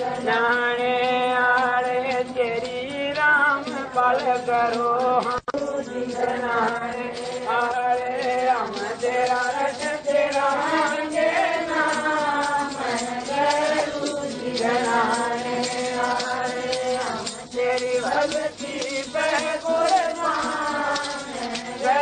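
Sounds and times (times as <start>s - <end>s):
light percussion ticking: 0.0s - 22.0s
man chanting devotional song: 0.0s - 22.0s.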